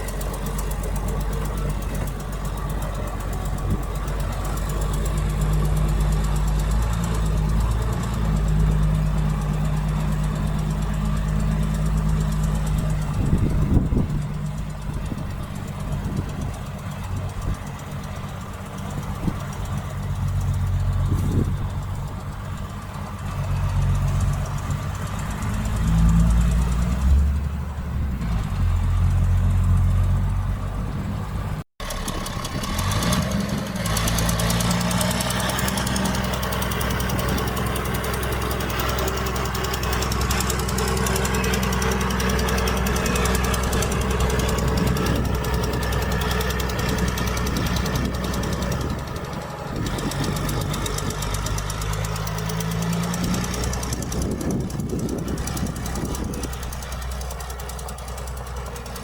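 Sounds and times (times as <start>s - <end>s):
heavy diesel engine clattering: 0.0s - 59.0s.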